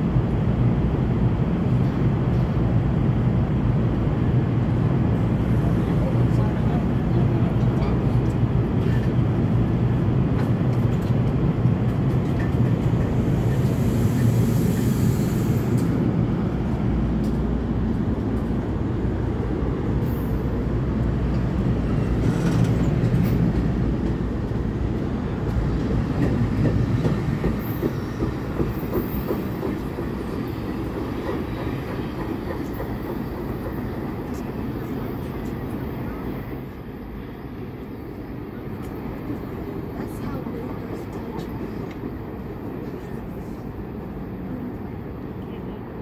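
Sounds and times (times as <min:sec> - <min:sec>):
train cars rolling past: 0:04.9 - 0:44.8.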